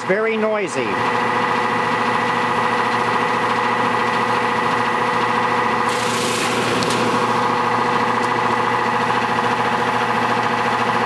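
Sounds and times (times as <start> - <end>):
air conditioner fan droning: 0.0 - 11.0.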